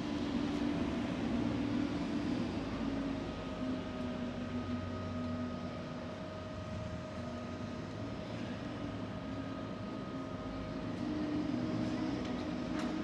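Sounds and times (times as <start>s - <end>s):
construction machinery engine hum: 0.0s - 13.0s.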